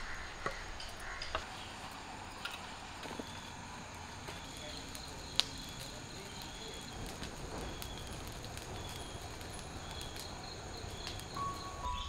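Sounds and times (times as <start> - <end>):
bonfire crackling and popping: 0.0 - 12.0
insects chirping: 0.0 - 12.0.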